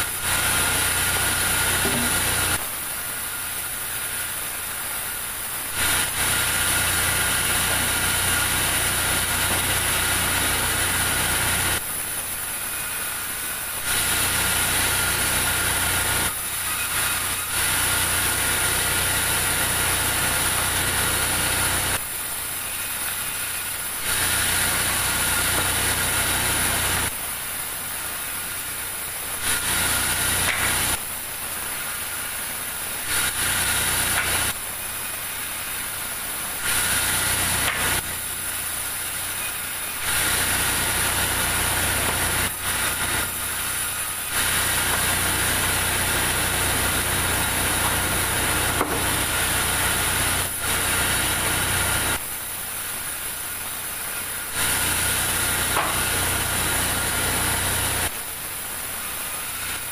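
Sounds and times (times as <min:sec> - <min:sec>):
band saw cutting timber: 0:00.0 - 0:27.2, 0:28.0 - 0:52.2, 0:53.0 - 0:58.2.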